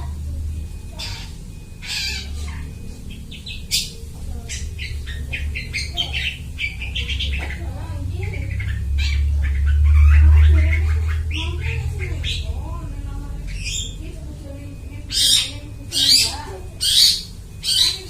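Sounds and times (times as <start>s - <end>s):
bird singing rapid chatter: 0.0s - 18.0s
steady low hum: 0.0s - 18.0s.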